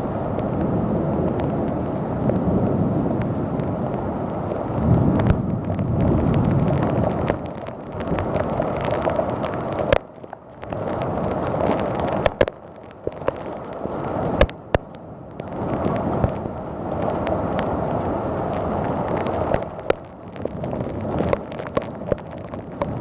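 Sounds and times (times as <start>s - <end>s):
heavy rain downpour: 0.0s - 23.0s
wind buffeting microphone: 0.0s - 23.0s.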